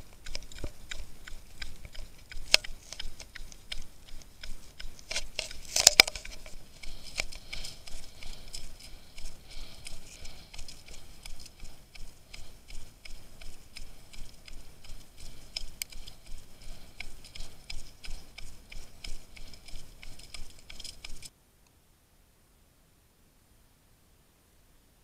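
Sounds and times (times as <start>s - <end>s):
running footsteps on dirt trail: 0.0s - 21.3s.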